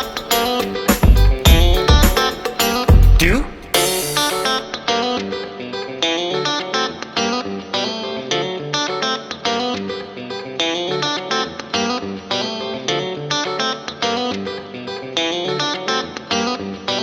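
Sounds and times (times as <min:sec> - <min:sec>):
electric guitar plucked notes: 0:00.0 - 0:17.0.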